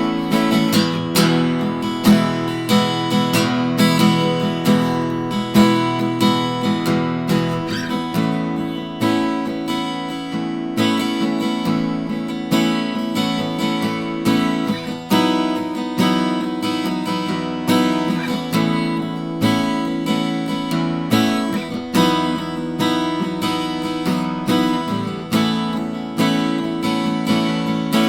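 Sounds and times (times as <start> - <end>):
acoustic guitar chords strummed: 0.0 - 28.0.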